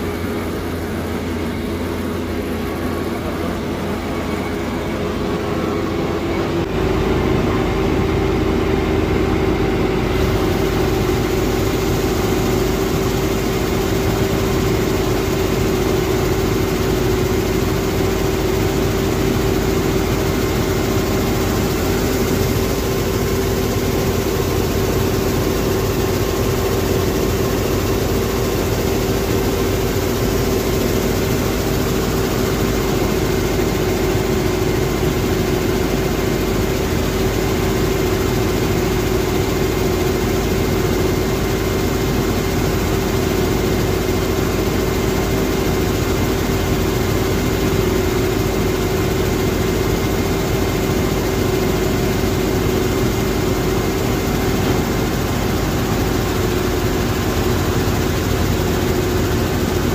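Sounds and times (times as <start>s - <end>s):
combine harvester engine drone: 0.0s - 59.9s
steady machine whine: 0.0s - 59.9s.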